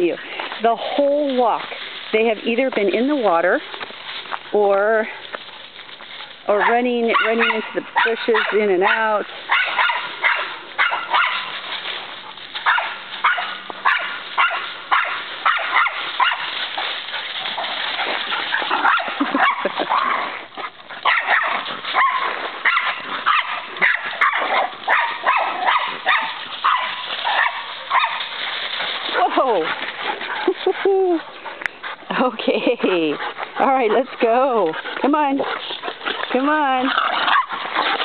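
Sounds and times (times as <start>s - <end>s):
dogs barking and yipping: 5.3s - 38.0s.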